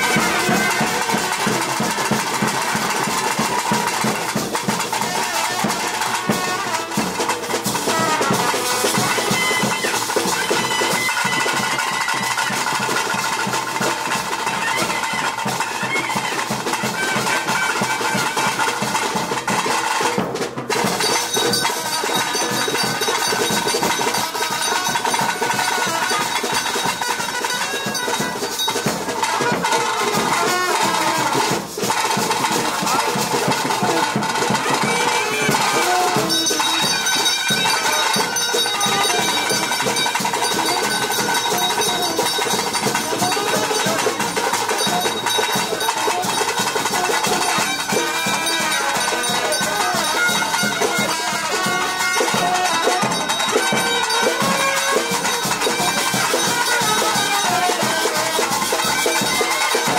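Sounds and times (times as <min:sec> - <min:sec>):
shrill double-reed pipe melody: 0:00.0 - 0:20.1, 0:20.8 - 0:59.9
fast continuous drumming: 0:00.0 - 0:59.9.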